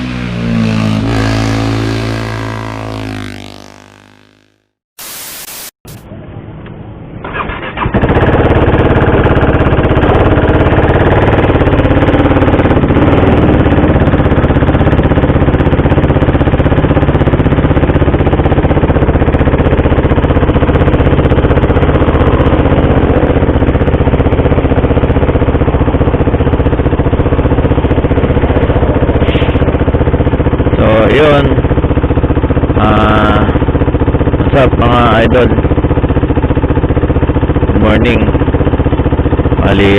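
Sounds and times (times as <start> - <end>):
motorcycle engine idling: 7.1 - 39.9.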